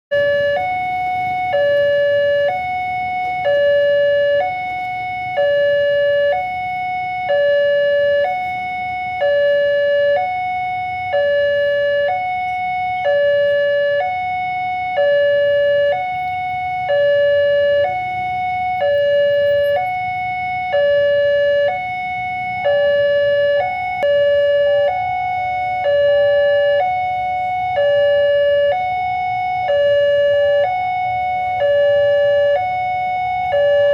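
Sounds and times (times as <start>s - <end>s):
level crossing two-tone alarm: 0.1s - 33.9s.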